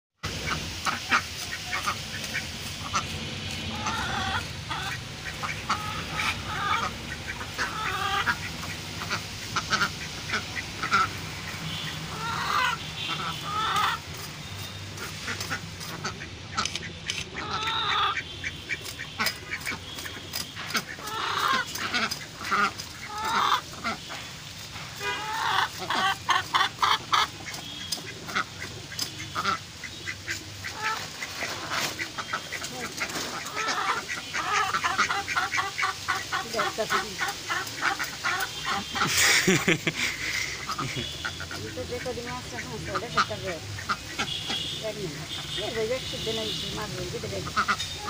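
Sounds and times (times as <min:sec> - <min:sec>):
poultry squawking: 0:00.2 - 0:48.0.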